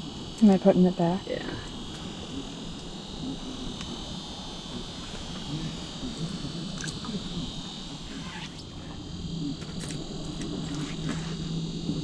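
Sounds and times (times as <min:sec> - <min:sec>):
steady high whine: 0:00.0 - 0:12.0
steady low hum: 0:00.0 - 0:12.0.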